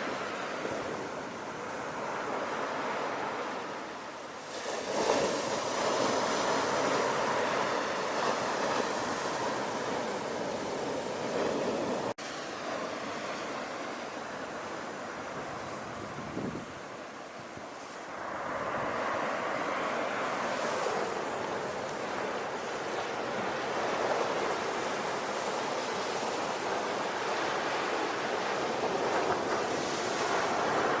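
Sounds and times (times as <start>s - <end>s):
sea waves breaking on shore: 0.0s - 31.0s.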